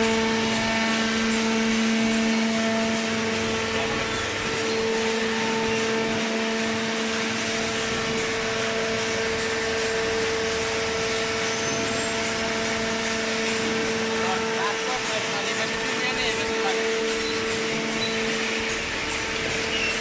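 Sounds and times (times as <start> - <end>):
hydraulic baler humming: 0.0 - 20.0.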